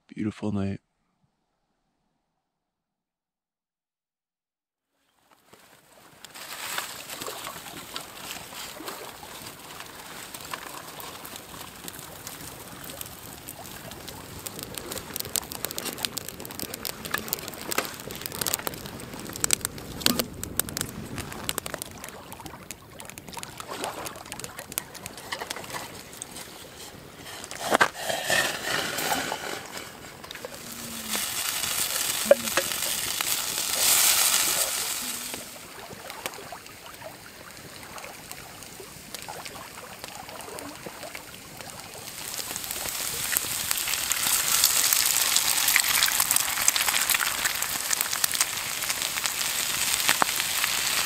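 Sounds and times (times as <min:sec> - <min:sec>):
campfire crackling: 0:05.2 - 0:51.0
food sizzling in a frying pan: 0:06.4 - 0:36.1, 0:38.6 - 0:51.0.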